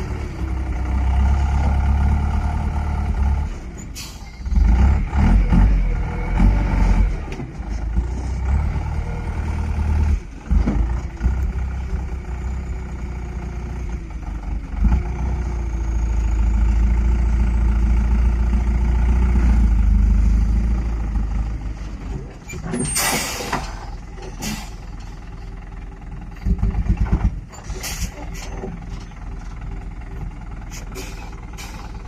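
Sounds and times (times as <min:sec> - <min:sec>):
diesel truck engine rumbling: 0:00.0 - 0:32.0.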